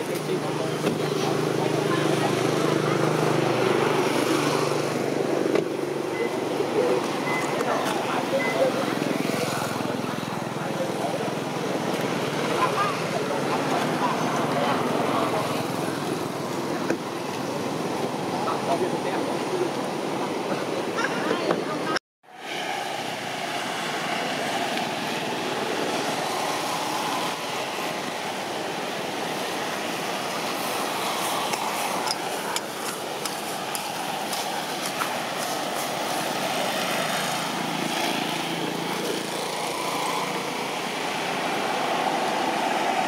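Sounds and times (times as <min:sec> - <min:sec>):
motor traffic drone: 0:00.0 - 0:43.0.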